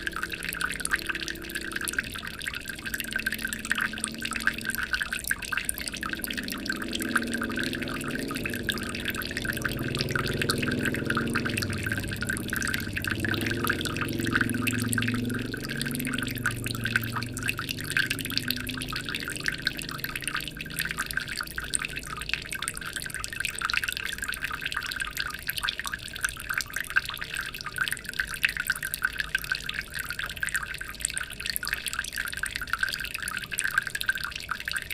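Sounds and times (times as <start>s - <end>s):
faint low rumble: 0.0s - 30.5s
water trickling and splashing: 0.0s - 34.9s.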